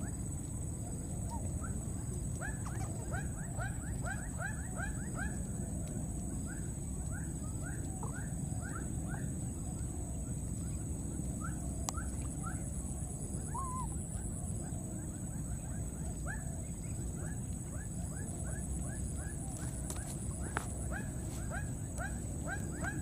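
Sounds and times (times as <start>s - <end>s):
steady high-pitched whine: 0.0s - 23.0s.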